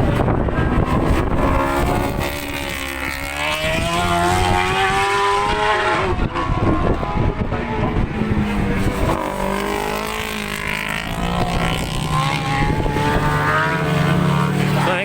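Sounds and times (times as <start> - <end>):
motorcycle engines racing: 0.0 - 15.0
wind buffeting microphone: 0.0 - 15.0.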